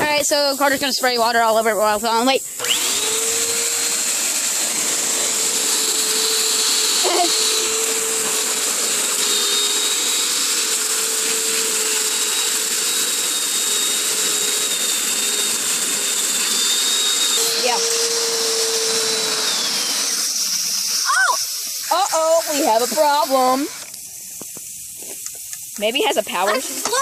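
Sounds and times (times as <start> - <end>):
vacuum cleaner motor whining: 0.0 - 24.6, 25.8 - 27.0.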